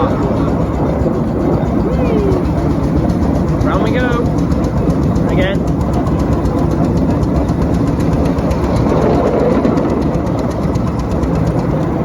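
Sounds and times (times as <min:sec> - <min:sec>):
fast even ticking: 0:00.0 - 0:12.0
train wheels rumbling on track: 0:00.0 - 0:12.0.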